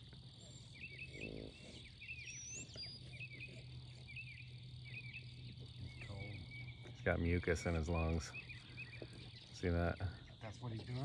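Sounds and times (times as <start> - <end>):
insects buzzing: 0.0 - 11.0
low steady hum: 0.0 - 11.0.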